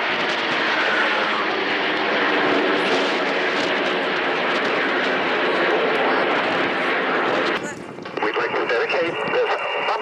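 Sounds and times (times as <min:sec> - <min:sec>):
jet engines flying overhead: 0:00.0 - 0:10.0.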